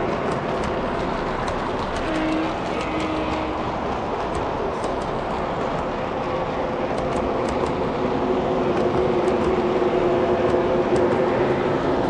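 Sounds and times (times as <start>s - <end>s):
model train wheels rumbling on rails: 0.0s - 12.0s.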